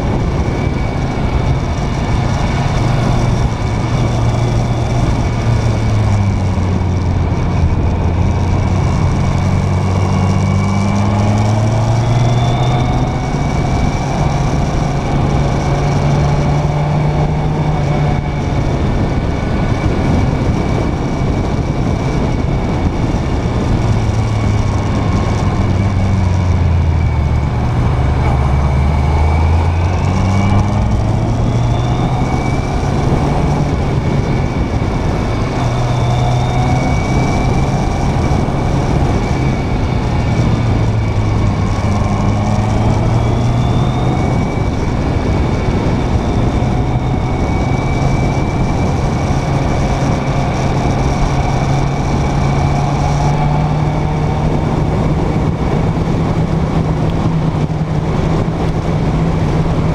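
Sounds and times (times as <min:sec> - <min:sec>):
motorcycle engine revving: 0:00.0 - 0:59.9
road noise: 0:00.0 - 0:59.9
wind noise: 0:00.0 - 0:59.9.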